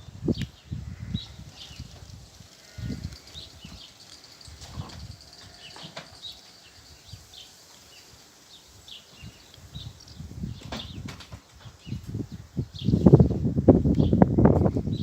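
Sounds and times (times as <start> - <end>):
birds chirping: 0.3 - 13.4.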